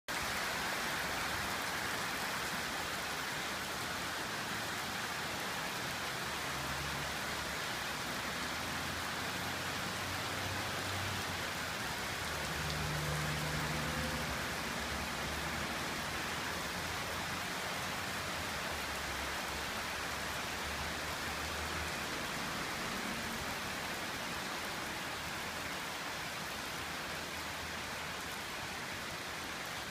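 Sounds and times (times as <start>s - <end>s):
heavy rain pouring on pavement: 0.1s - 29.9s.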